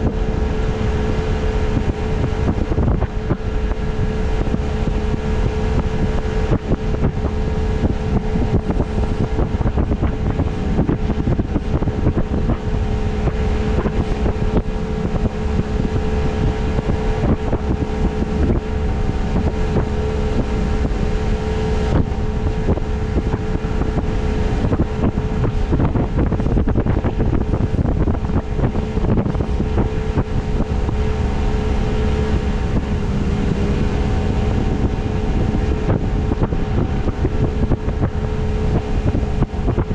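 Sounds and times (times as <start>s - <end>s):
boat motor running: 0.0s - 39.9s
wind buffeting microphone: 0.0s - 39.9s.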